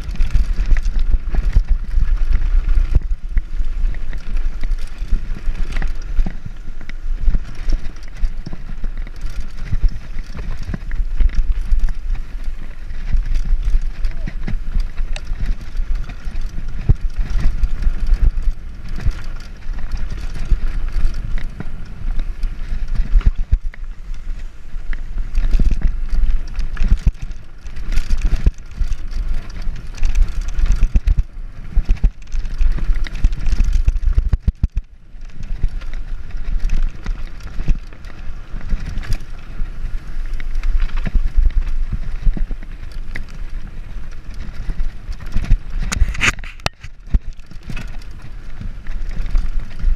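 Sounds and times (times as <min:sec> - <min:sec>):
bike rattling over rough trail: 0:00.0 - 0:49.9
wind rumbling on microphone: 0:00.0 - 0:49.9.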